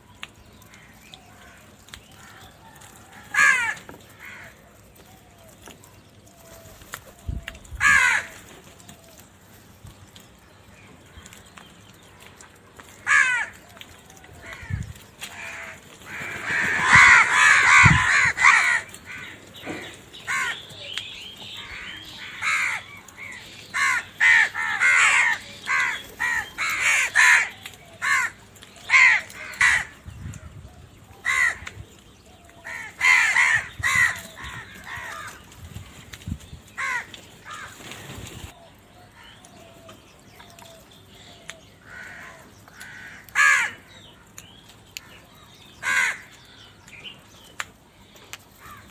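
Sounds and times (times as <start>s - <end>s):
many crows cawing: 0.6s - 9.2s, 12.0s - 35.8s, 36.7s - 38.0s, 39.0s - 47.7s, 48.3s - 48.9s.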